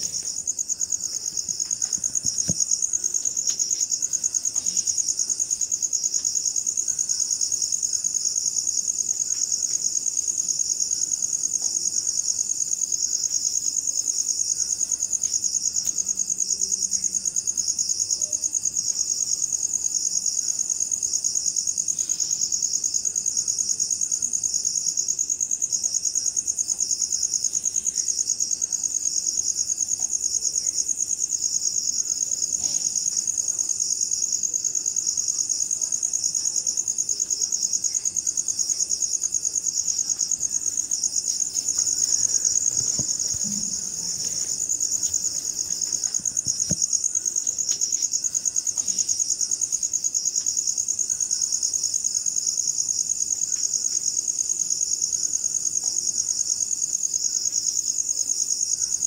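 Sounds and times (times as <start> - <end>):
faint high insect tone: 0.0 - 59.0
pulsing insect trill: 0.0 - 59.0.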